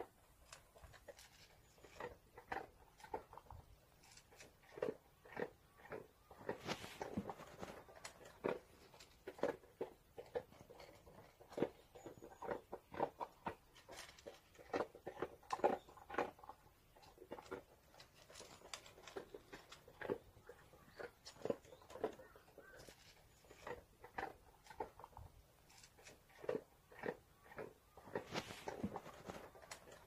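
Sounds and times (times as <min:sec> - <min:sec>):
dog chewing from a bowl: 0:00.6 - 0:30.0.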